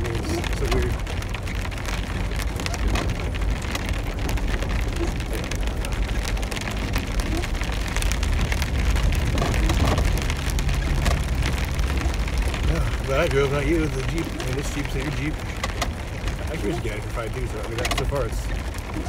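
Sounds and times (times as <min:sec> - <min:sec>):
engine and tyres rumbling: 0:00.0 - 0:19.0
rain pattering on car roof: 0:00.0 - 0:19.0.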